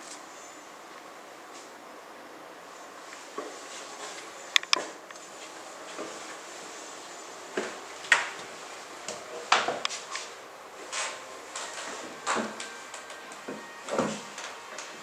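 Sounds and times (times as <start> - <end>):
room hiss: 0.0 - 15.0.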